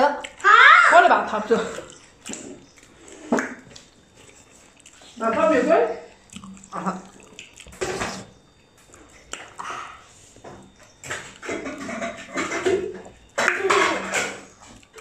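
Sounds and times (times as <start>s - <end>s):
wet chewing and mouth sounds: 0.0s - 0.7s, 1.3s - 5.3s, 5.9s - 15.0s.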